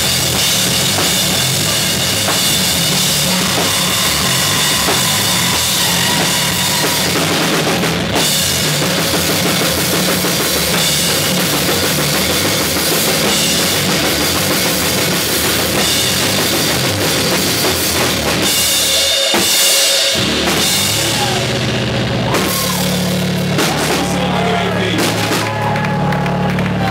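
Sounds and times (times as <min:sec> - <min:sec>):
drum kit with crashing cymbals: 0:00.0 - 0:25.7
electric bass guitar: 0:00.0 - 0:26.9.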